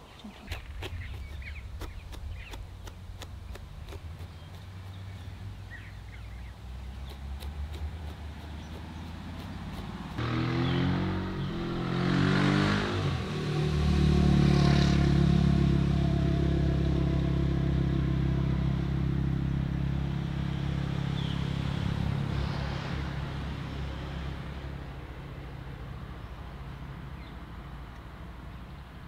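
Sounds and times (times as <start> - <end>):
vehicle engine running: 0.6 - 29.0.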